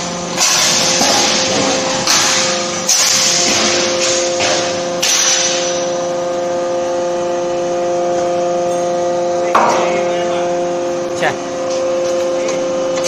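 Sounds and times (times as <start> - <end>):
forging hammer machine hum: 0.0 - 13.0.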